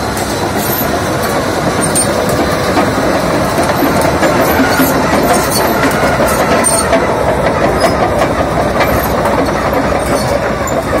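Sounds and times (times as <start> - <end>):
bulldozer diesel engine clattering: 0.0 - 11.0.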